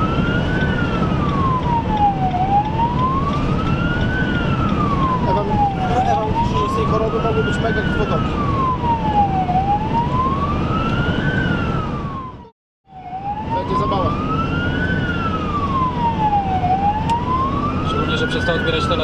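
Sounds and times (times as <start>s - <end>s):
ambulance siren wailing: 0.0s - 19.0s
engine and tyre noise: 0.0s - 19.0s.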